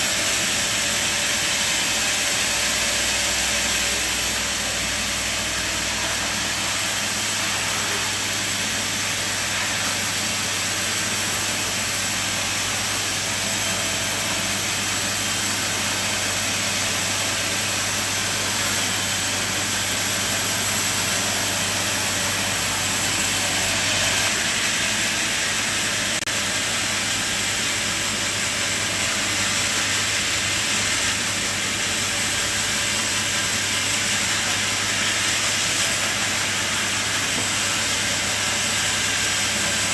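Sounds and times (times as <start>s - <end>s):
sawmill machine sawing: 0.0s - 39.9s.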